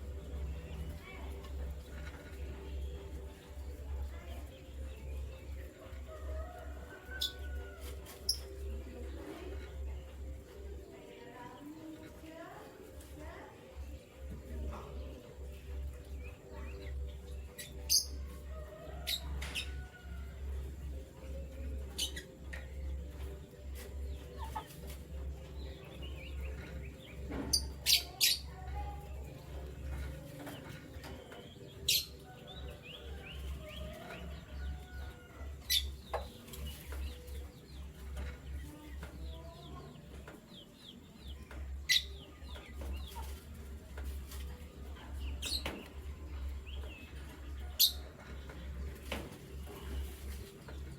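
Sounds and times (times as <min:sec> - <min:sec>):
canaries chirping: 0:00.0 - 0:50.9.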